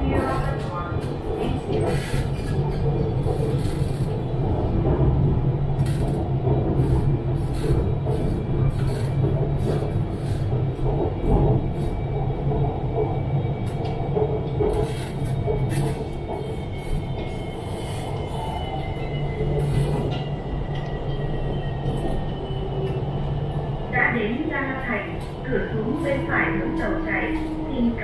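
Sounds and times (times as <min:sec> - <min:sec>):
train rumbling and humming: 0:00.0 - 0:28.0.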